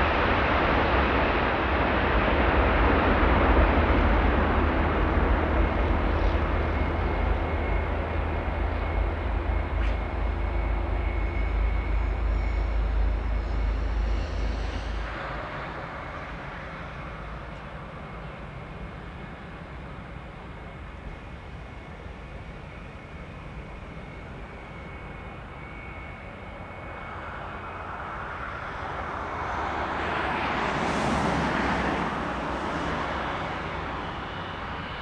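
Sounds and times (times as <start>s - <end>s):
jet airliner engines roaring: 0.0s - 35.0s.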